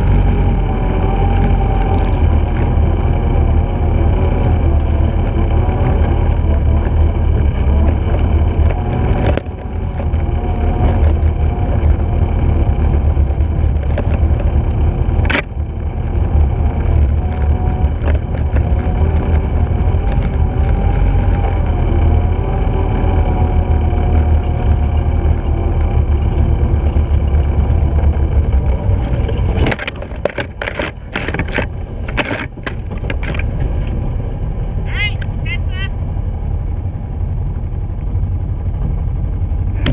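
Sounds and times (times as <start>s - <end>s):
wheeled rig rumbling over dirt: 0.0s - 35.4s
rig rattling and clicking: 1.0s - 3.5s, 4.1s - 34.1s.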